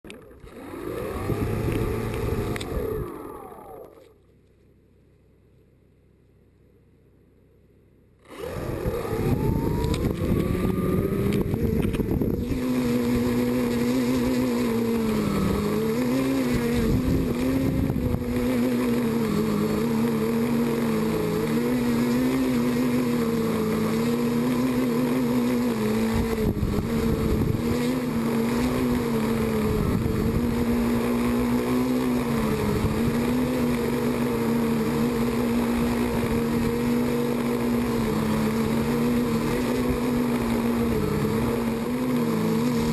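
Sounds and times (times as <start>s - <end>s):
quadcopter motors buzzing whine: 0.0s - 4.4s, 8.2s - 42.9s.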